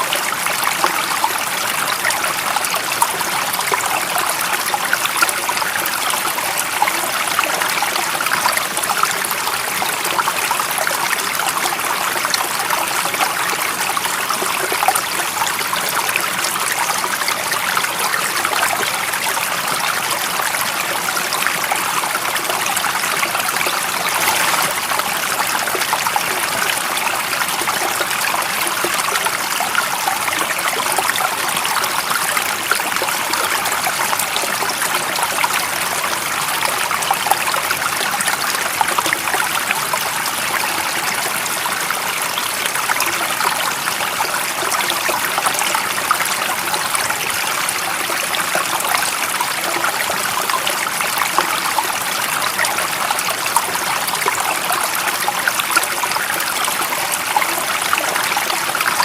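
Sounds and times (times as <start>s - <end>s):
stream water running: 0.0s - 59.0s.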